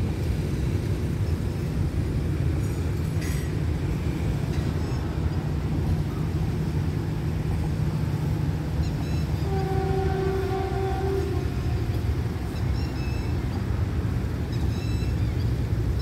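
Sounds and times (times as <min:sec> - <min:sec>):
diesel train rumbling: 0:00.0 - 0:16.0.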